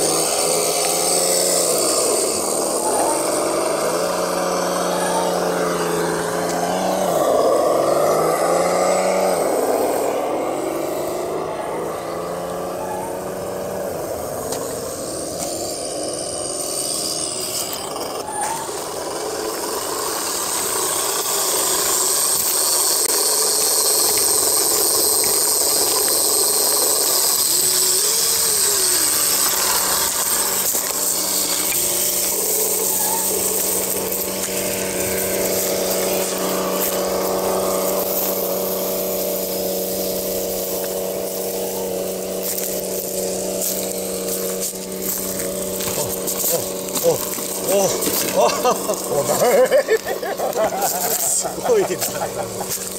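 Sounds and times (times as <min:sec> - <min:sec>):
toy truck electric motor whining: 0:00.0 - 0:52.9.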